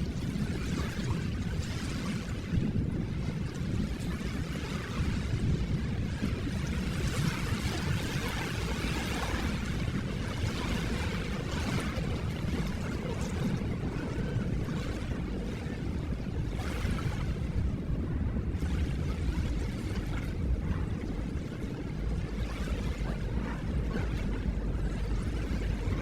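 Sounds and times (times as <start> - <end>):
ocean surf rumbling: 0.0 - 26.0
washing water of waves: 0.0 - 26.0.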